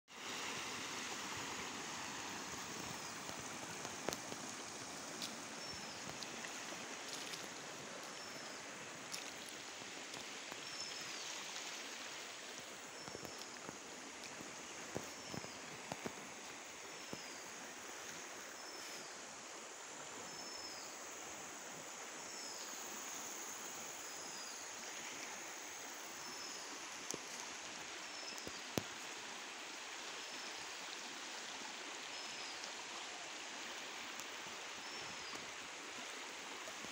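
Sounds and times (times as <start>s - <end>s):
floodwater rushing: 0.1s - 19.0s, 24.8s - 36.9s.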